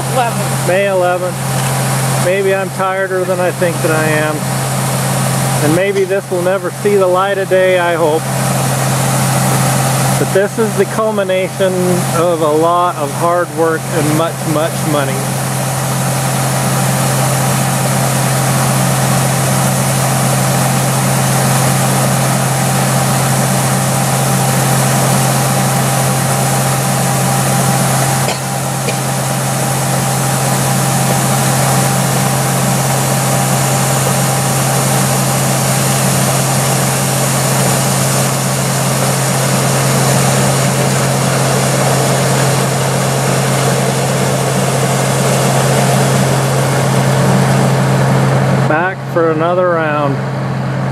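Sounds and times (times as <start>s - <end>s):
large machinery engine drone: 0.0s - 50.9s.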